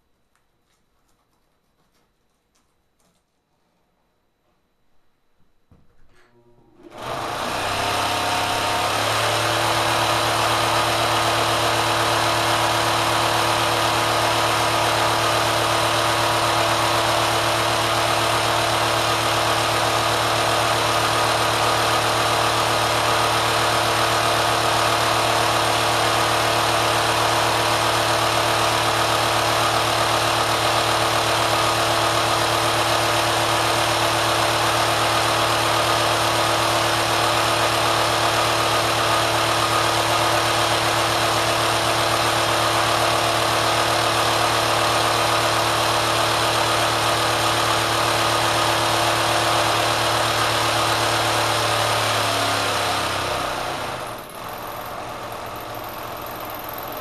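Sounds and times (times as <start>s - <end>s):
sewing machine running: 6.8s - 57.0s.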